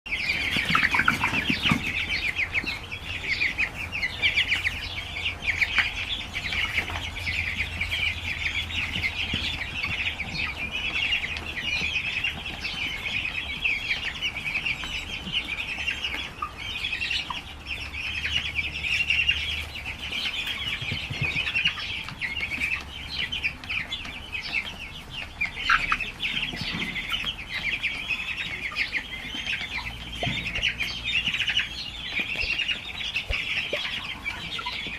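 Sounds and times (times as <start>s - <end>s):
flock of birds chattering: 0.1s - 34.9s.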